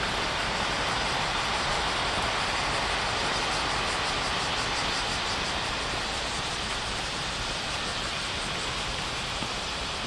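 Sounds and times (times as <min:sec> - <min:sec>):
high-speed train rushing past: 0:00.0 - 0:10.0.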